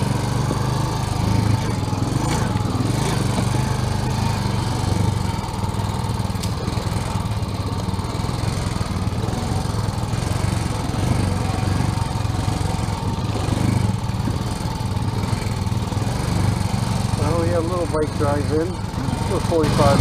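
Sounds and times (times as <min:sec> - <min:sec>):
motorbike engine droning: 0:00.0 - 0:20.0.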